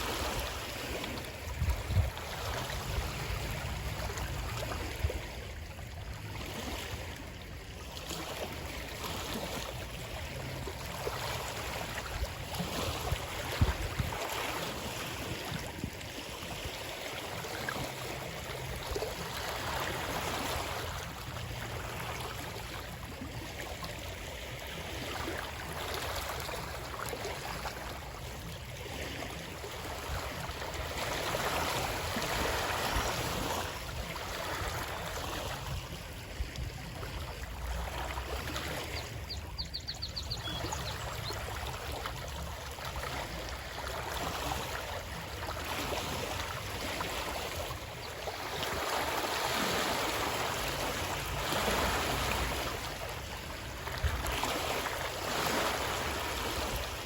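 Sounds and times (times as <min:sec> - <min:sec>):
stream flowing and splashing: 0:00.0 - 0:57.0.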